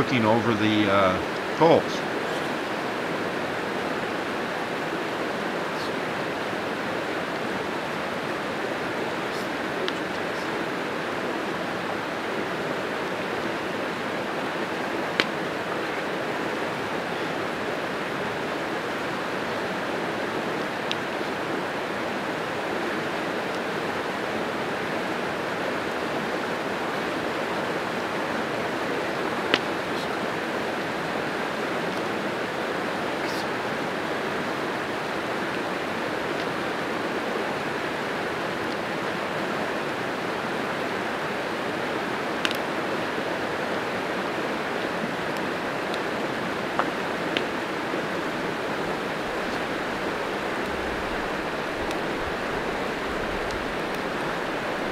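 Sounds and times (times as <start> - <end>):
creek water rushing: 0.0 - 54.9.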